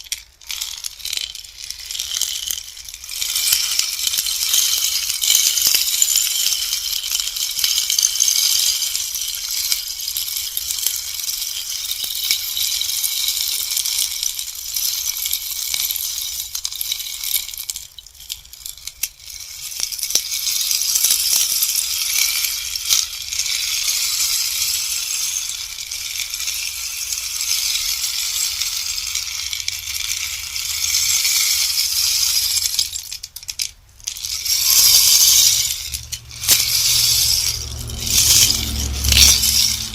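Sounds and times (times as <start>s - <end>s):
rainstick pellets rattling: 0.0s - 39.9s.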